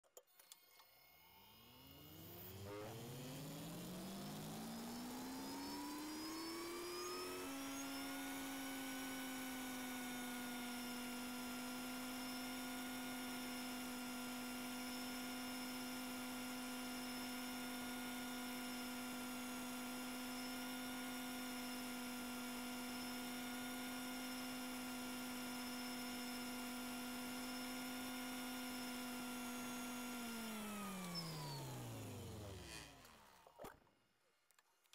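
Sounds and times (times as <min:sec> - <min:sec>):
centrifuge motor whining: 0:00.4 - 0:33.6.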